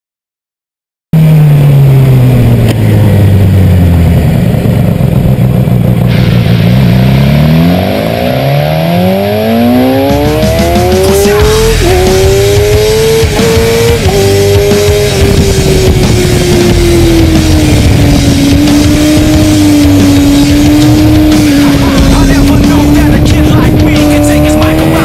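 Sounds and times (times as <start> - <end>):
motorcycle engine revving: 1.2 - 25.0.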